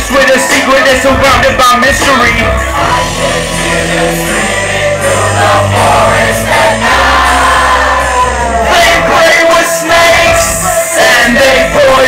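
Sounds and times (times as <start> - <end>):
heavy bass beat: 0.0 - 12.0
rap vocal sung and shouted: 0.0 - 12.0.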